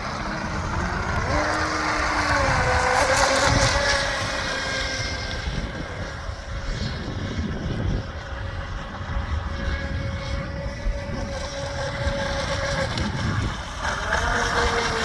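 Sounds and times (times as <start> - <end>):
electric boat motor whine: 0.0 - 15.0
low rumbling: 0.0 - 15.0.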